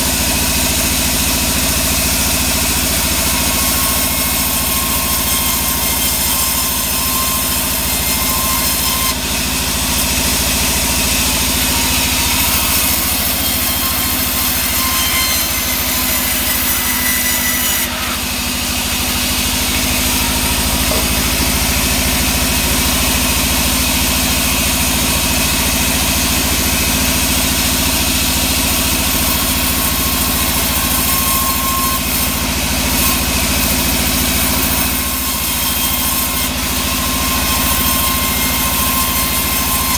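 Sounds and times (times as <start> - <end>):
band saw cutting wood: 0.0 - 39.9
sawmill machine drone: 0.0 - 39.9.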